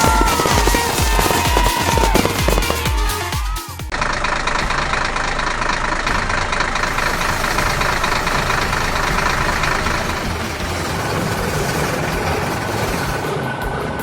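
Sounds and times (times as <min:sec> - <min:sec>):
construction vehicle engine idling: 0:00.0 - 0:14.0.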